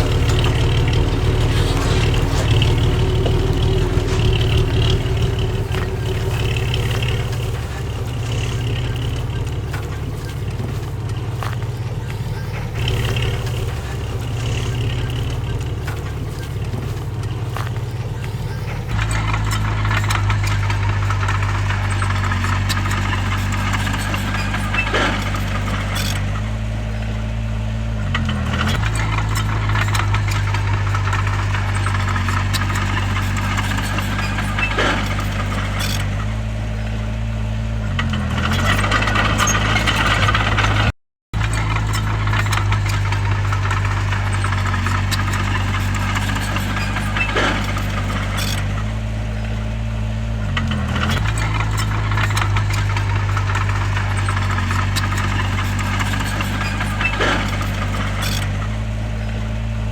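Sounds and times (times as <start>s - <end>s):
bulldozer engine running: 0.0s - 59.9s.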